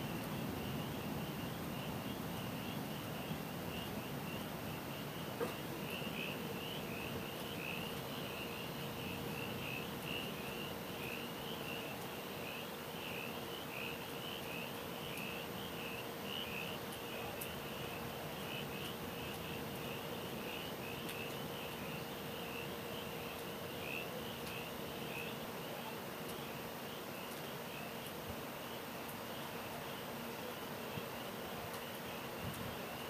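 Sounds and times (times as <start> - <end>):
soft background hiss: 0.0 - 33.0.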